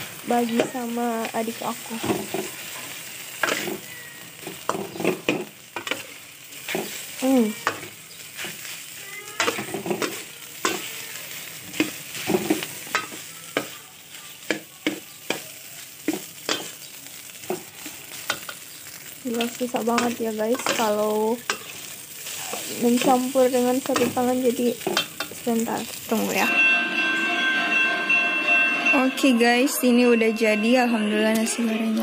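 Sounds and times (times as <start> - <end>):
rice frying hiss: 0.0 - 26.8
metal spatula scraping a wok: 0.0 - 29.4.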